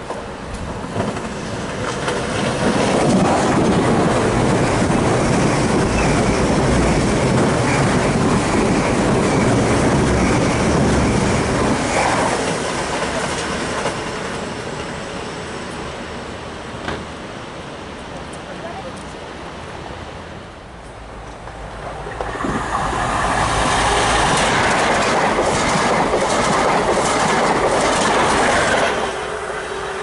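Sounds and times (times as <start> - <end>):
train passing on rails: 0.0 - 30.0.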